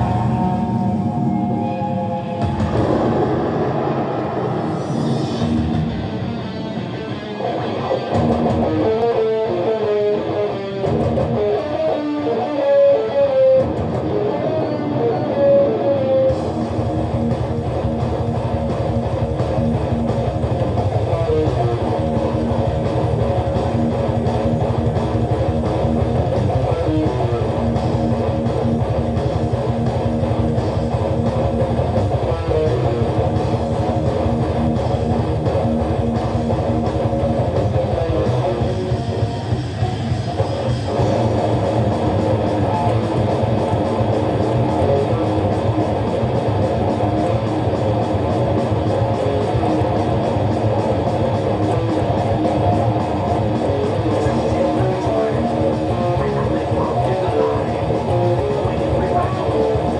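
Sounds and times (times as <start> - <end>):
electric guitar metal riffs: 0.0 - 59.9.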